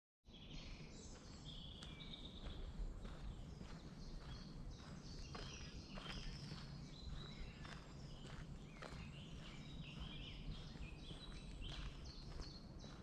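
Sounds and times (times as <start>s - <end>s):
birds chirping and trilling: 0.3s - 13.0s
footsteps on forest path: 0.7s - 13.0s.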